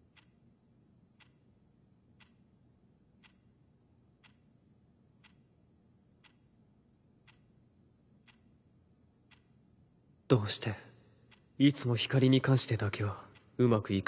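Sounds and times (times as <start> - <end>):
clock ticking faintly: 0.0 - 14.0.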